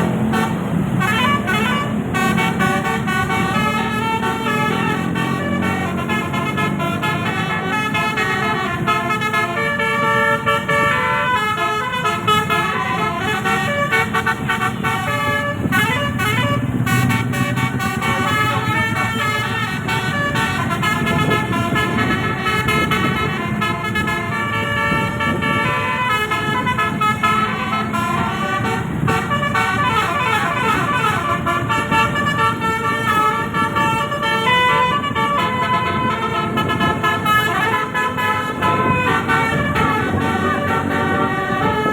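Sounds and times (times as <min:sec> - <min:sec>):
musical bus air horn: 0:00.0 - 0:41.9.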